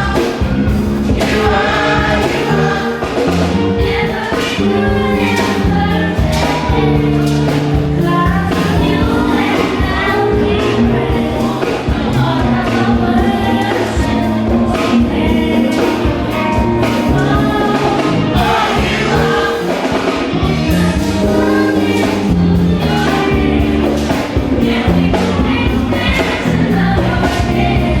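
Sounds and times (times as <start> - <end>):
stepping bass line: 0.0 - 19.7, 20.3 - 28.0
band with steady beat: 0.0 - 28.0
choir singing gospel: 0.0 - 28.0.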